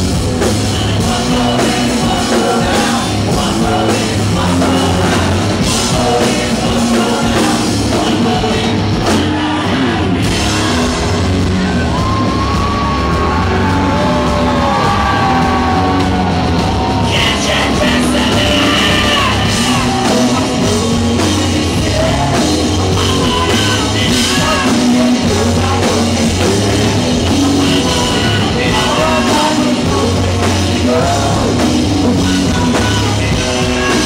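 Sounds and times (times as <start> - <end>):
rock band playing live: 0.0 - 34.0.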